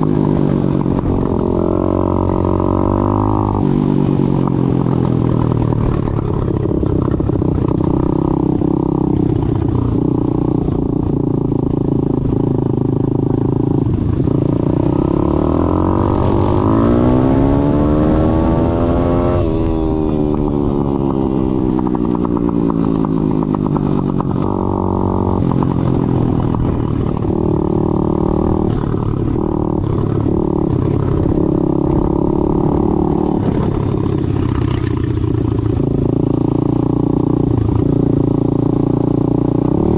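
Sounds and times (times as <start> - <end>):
pit bike engine revving: 5.3 - 39.9.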